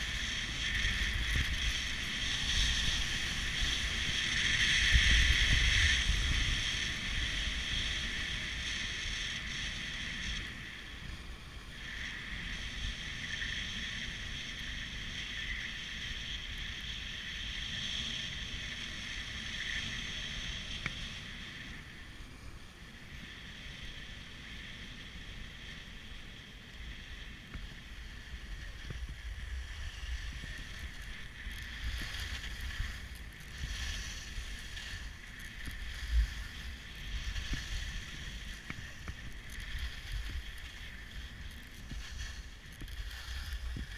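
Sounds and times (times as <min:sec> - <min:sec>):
skis scraping over snow: 0:00.0 - 0:43.9
wind rumbling on microphone: 0:00.0 - 0:43.9.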